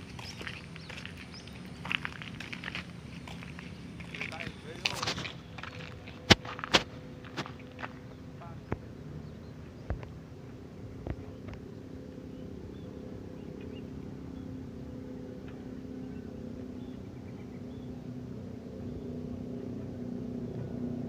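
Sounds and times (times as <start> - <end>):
locomotive engine humming: 0.0 - 21.0.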